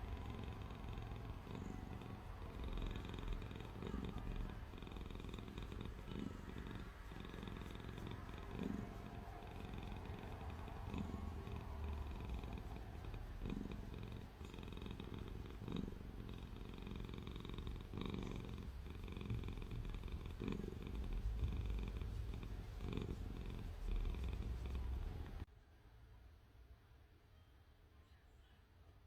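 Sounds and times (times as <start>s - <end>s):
cat purring: 0.0s - 25.5s.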